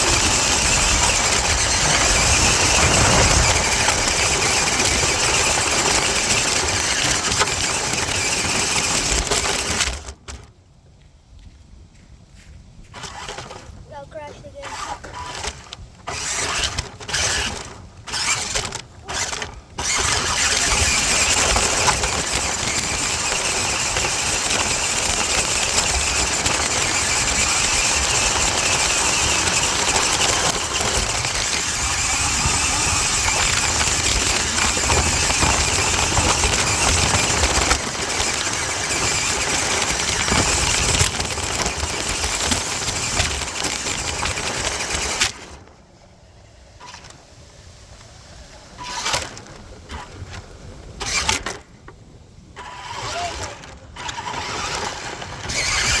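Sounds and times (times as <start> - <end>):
toy truck electric motor running: 0.0 - 10.5, 13.0 - 45.6, 48.8 - 50.2, 51.0 - 51.6, 52.6 - 56.0.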